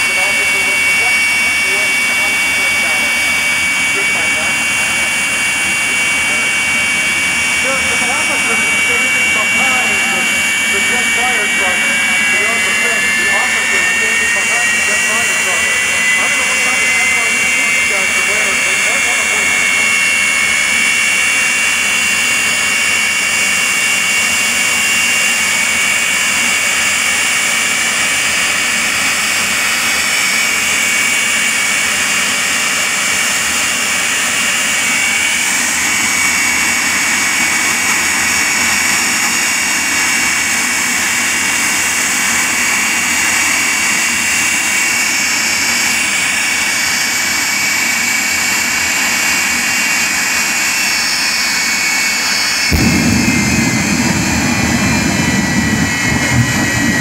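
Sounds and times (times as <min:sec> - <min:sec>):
jet engine rushing: 0:00.0 - 0:57.0
turbine whine: 0:00.0 - 0:57.0.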